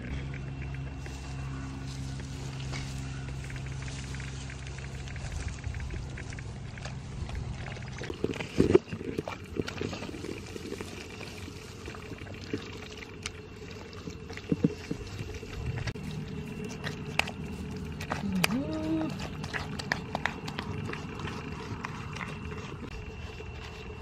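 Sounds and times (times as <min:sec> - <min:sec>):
hands squelching in wet mud: 0:00.0 - 0:24.0.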